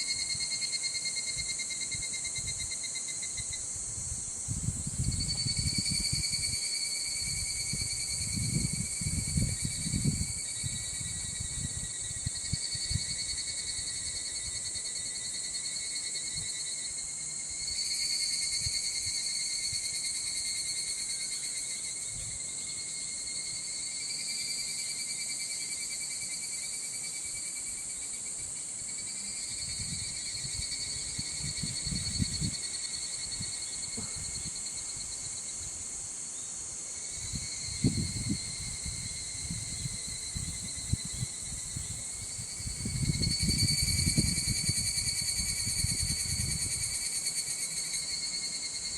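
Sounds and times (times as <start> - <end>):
insects shrilling: 0.0 - 48.9.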